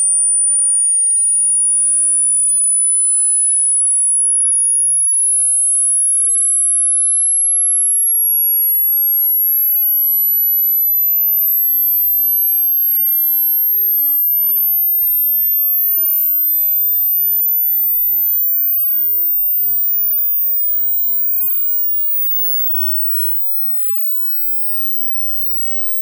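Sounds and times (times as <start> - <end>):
high-pitched sine tone: 0.0 - 26.0.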